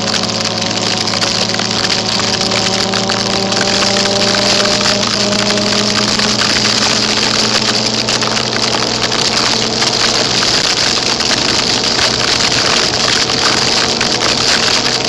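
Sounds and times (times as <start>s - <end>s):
scooter engine humming: 0.0s - 15.0s
wet snow pattering on tape: 0.0s - 15.0s.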